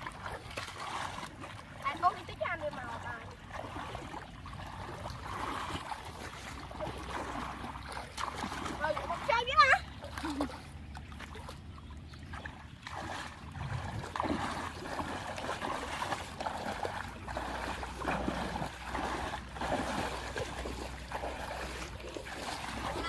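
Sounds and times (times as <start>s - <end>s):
water sloshing and splashing: 0.0s - 23.0s.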